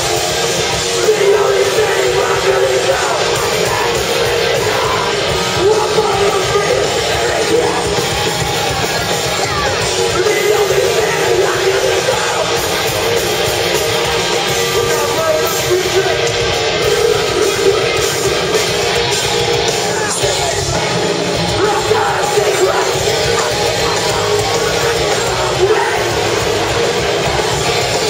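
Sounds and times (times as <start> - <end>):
heavy metal band playing live: 0.0 - 28.0.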